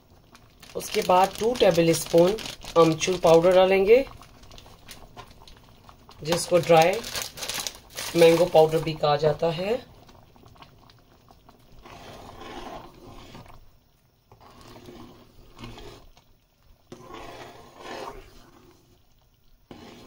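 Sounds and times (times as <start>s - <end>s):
spoon stirring thick food in pot: 0.4s - 9.1s, 10.1s - 13.7s, 14.3s - 20.0s.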